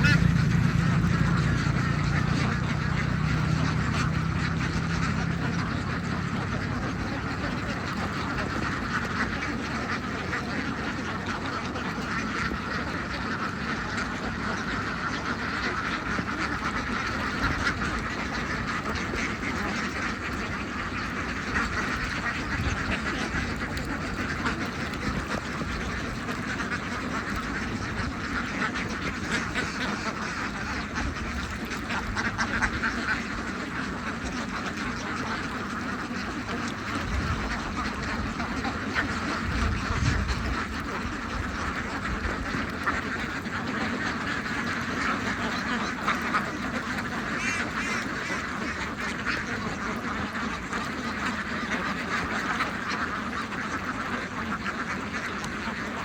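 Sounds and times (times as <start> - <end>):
ducks quacking: 0.0 - 56.0.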